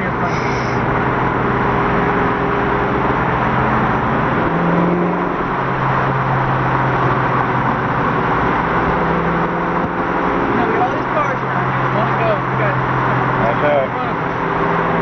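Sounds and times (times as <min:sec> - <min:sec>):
car engine running: 0:00.0 - 0:15.0
road noise: 0:00.0 - 0:15.0.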